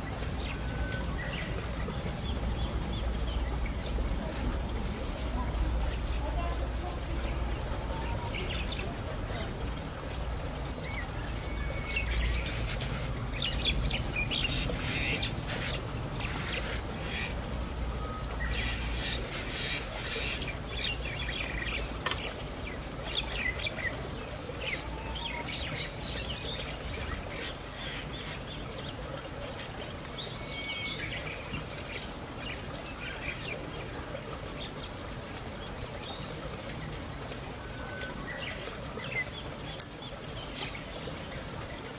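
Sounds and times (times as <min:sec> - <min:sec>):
small birds chirping: 0:00.0 - 0:09.5, 0:10.6 - 0:17.4, 0:18.0 - 0:41.6.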